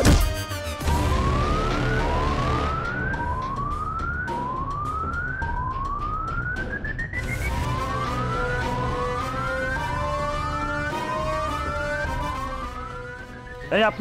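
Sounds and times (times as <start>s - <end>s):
siren rising sweeps: 0.7s - 13.5s.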